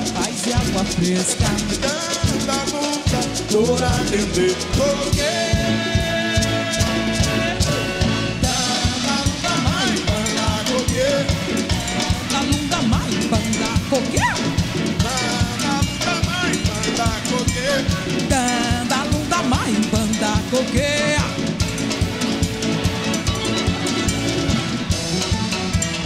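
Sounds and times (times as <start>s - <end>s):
fast steady drum beat: 0.0s - 26.0s
jazz orchestra playing: 1.8s - 26.0s.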